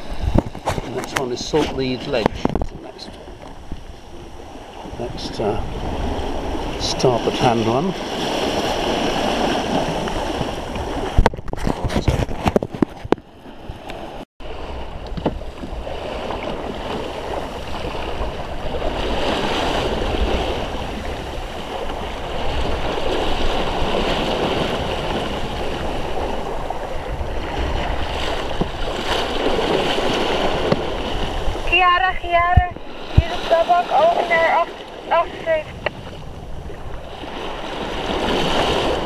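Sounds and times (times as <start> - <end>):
water splashing along wooden hull: 0.0 - 39.0
wind rumble on microphone: 0.0 - 39.0.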